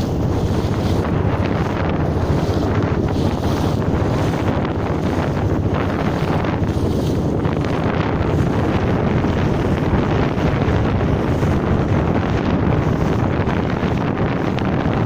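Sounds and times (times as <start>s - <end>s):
waves on water: 0.0s - 15.0s
wind on microphone: 0.0s - 15.0s.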